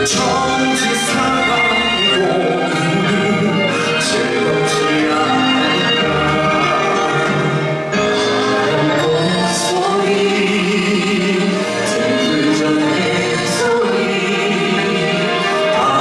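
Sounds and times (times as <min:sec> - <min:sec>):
group singing in harmony: 0:00.0 - 0:16.0
instrumental accompaniment: 0:00.0 - 0:16.0.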